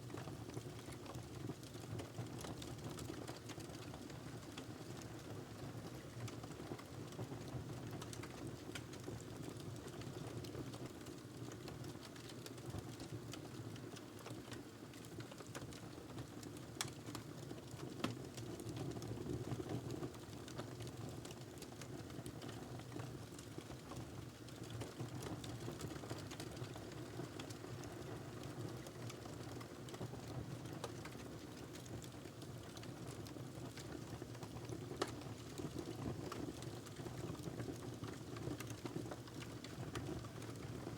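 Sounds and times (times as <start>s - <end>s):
fire crackling and popping: 0.1s - 5.3s, 5.9s - 40.9s.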